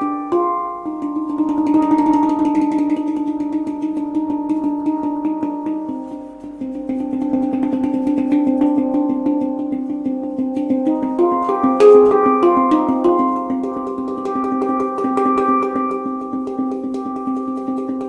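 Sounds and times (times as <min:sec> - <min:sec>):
handpan played in flowing strokes: 0:00.0 - 0:18.0.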